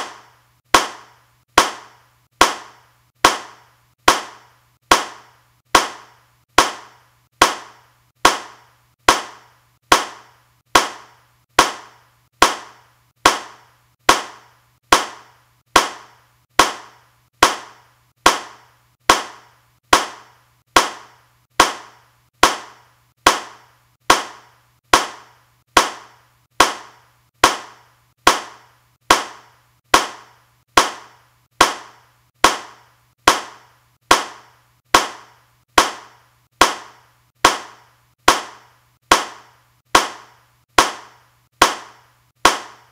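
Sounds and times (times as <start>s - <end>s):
hand clap: 0.0s - 42.9s.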